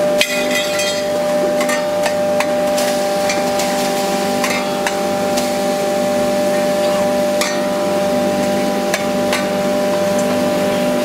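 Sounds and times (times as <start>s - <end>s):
grinding machine motor hum: 0.0s - 11.0s.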